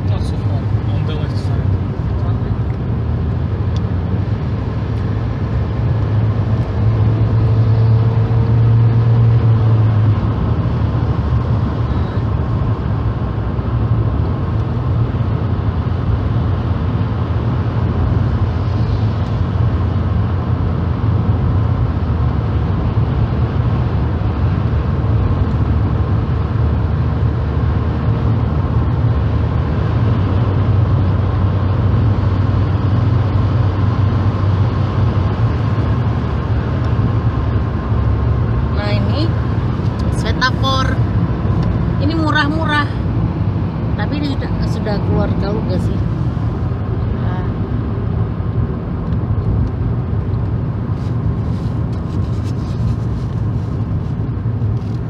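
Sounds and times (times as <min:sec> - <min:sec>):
car engine drone: 0:00.0 - 0:55.0
tyre road noise: 0:00.0 - 0:55.0.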